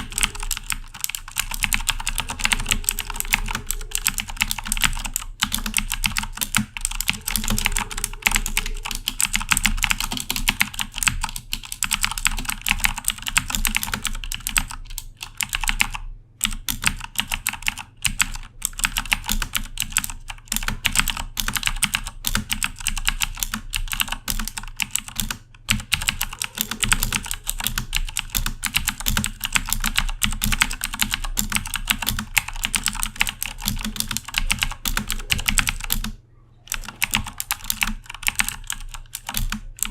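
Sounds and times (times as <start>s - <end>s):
clicky mechanical keyboard typing: 0.0s - 39.9s.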